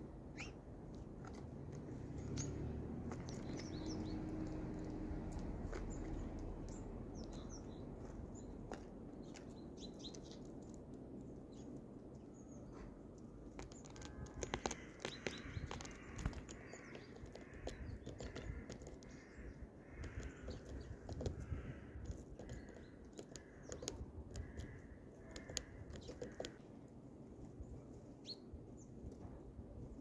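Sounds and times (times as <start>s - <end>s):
low background rumble: 0.0s - 30.0s
small birds chirping: 0.1s - 26.7s, 27.6s - 29.2s
soft bird calls: 0.3s - 0.7s, 1.3s - 10.8s, 11.4s - 26.7s
birds pecking at grain: 0.8s - 27.0s.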